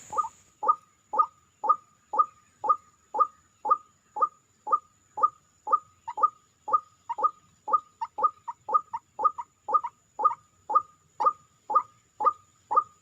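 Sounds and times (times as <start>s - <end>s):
waterhen calls: 0.0s - 13.0s.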